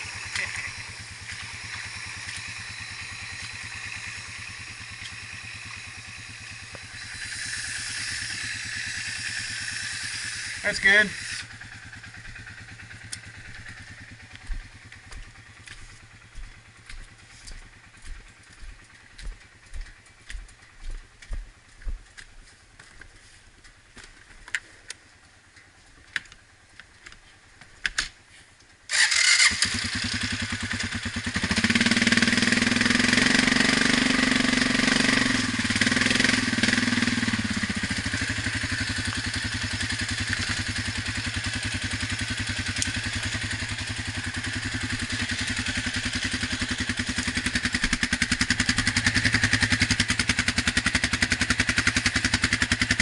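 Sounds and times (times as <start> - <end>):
atv engine starting and running: 0.0 - 23.0, 23.6 - 53.0.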